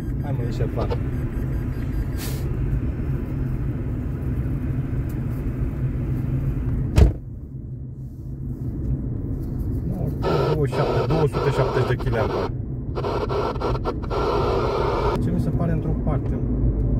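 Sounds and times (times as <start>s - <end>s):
engine and road rumble: 0.0s - 16.9s.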